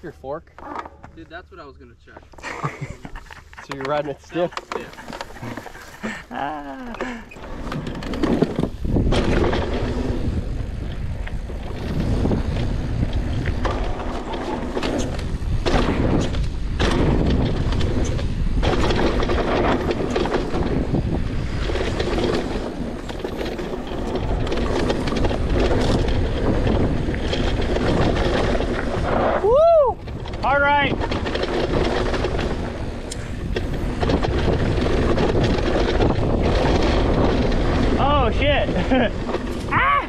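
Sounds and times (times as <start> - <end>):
bike rattling over bumps: 2.0 - 40.0
bike tyres rumbling over dirt: 2.2 - 40.0.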